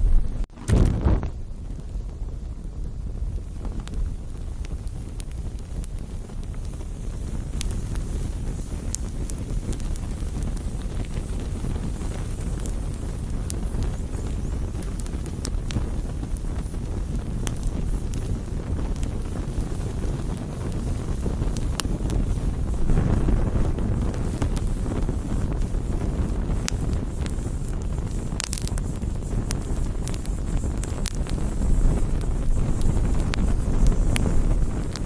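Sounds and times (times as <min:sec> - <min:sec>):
campfire crackling and popping: 0:00.0 - 0:35.0
wind rumble on microphone: 0:00.0 - 0:35.0.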